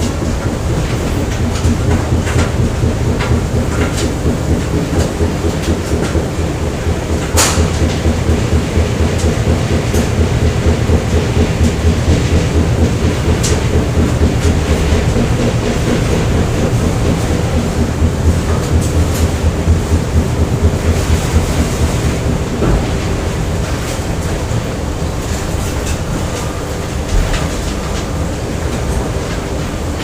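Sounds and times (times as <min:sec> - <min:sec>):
low rumble of machines: 0:00.0 - 0:30.0.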